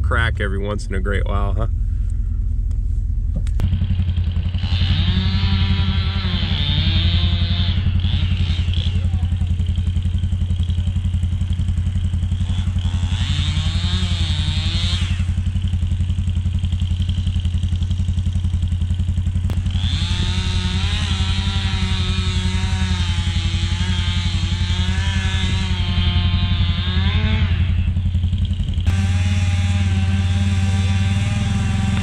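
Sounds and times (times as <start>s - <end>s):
steady low drone: 0.0s - 32.0s
chainsaw running: 3.6s - 32.0s.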